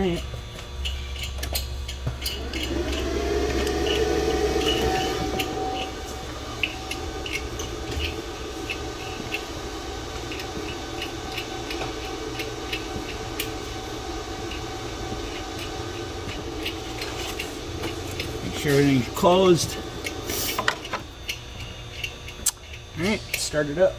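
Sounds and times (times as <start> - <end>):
low hum: 1.6 - 22.8.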